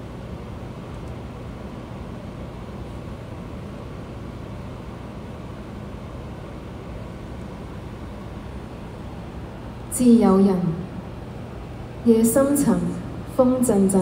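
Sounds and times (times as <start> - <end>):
low rumbling hum and hiss: 0.0 - 14.0.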